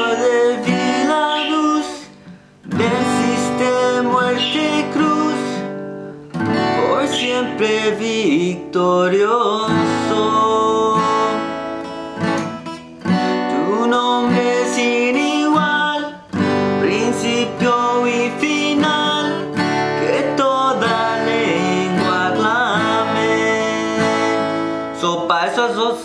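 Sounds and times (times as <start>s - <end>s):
man singing wordless melody: 0.0s - 12.0s, 13.2s - 26.0s
acoustic guitar strumming: 0.0s - 26.0s.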